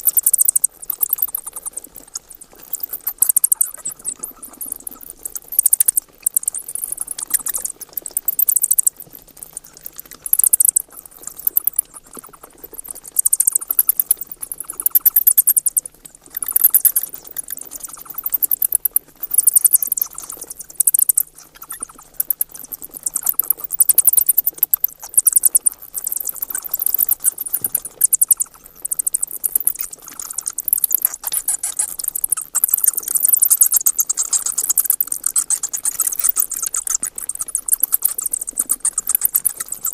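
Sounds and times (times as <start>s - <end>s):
bats chittering: 0.0s - 9.0s, 10.2s - 12.4s, 13.0s - 15.8s, 16.4s - 22.0s, 25.1s - 39.9s.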